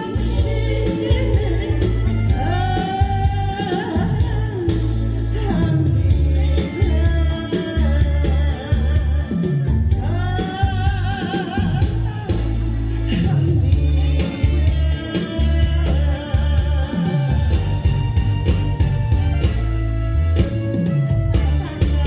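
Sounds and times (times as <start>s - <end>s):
instrumental backing music: 0.0s - 22.0s
person singing ballad: 0.0s - 22.0s.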